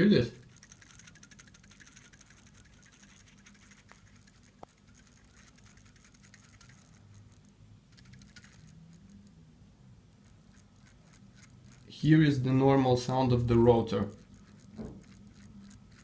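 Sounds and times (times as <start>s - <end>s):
watch rotor clicking and rattling: 0.1s - 9.4s, 10.1s - 16.0s.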